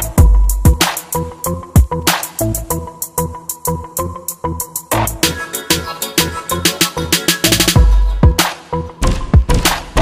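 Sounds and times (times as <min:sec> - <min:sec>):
music with fast drum beat: 0:00.0 - 0:03.7, 0:04.7 - 0:10.0.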